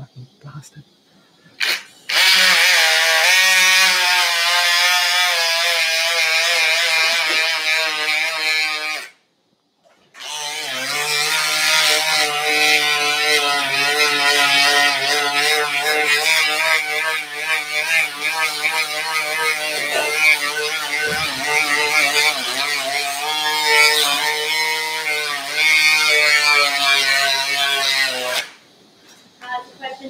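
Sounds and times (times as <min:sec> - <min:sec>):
bone saw whining: 0:01.5 - 0:09.2, 0:10.2 - 0:28.6.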